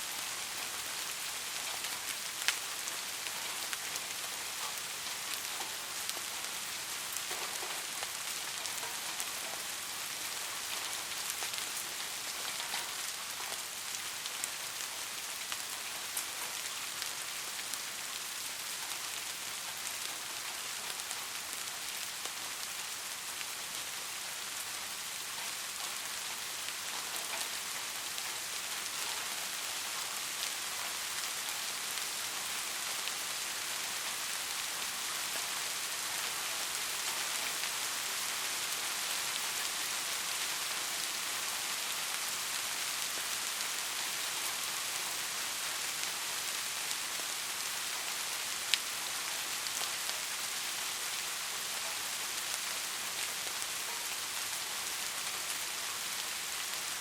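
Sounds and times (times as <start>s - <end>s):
rain falling on foliage: 0.0s - 57.0s.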